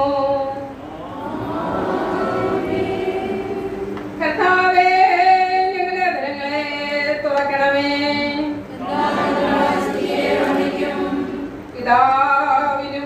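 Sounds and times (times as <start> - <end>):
congregation singing: 0.0 - 5.4, 6.5 - 11.7.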